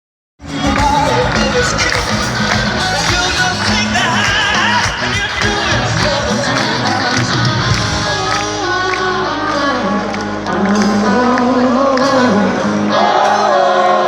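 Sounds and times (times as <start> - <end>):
live rock band playing: 0.4 - 14.0
person singing: 0.4 - 14.0.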